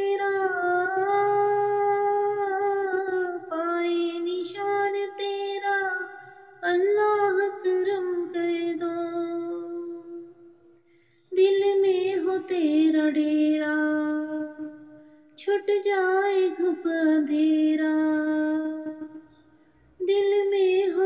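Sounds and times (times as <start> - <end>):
woman singing unaccompanied: 0.0 - 10.5, 11.3 - 19.3, 20.0 - 21.0.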